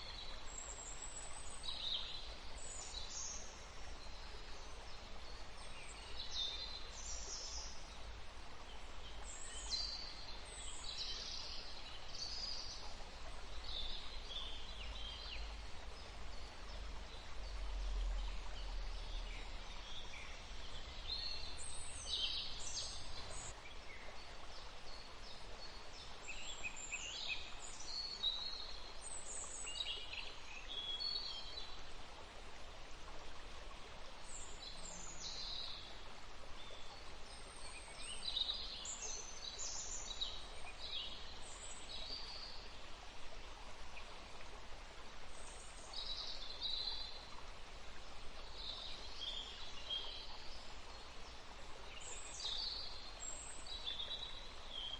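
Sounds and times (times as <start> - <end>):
songbirds chirping: 0.0 - 54.9
steady background hiss: 0.0 - 54.9.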